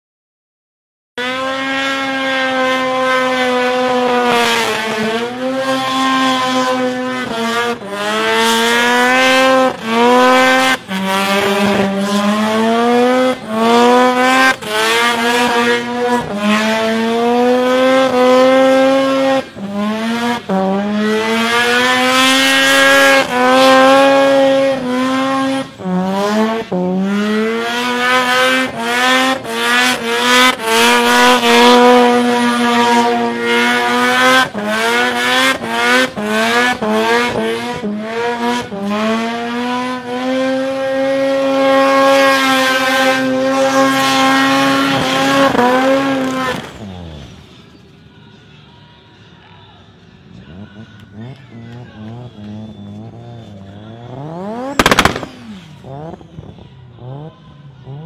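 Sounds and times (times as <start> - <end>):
car engine revving hard: 1.2 - 47.4, 52.0 - 57.3.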